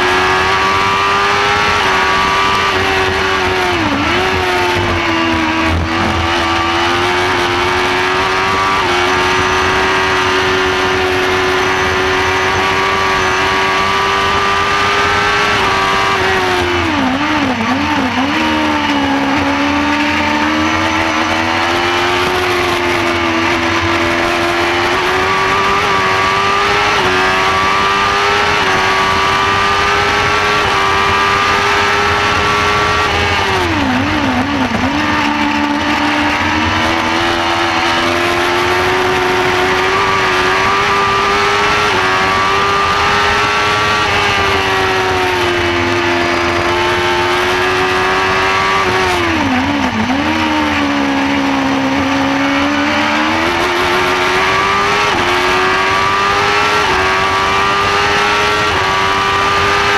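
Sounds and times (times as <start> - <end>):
race car engine at high revs: 0.0 - 59.9
wind and road noise: 0.0 - 59.9.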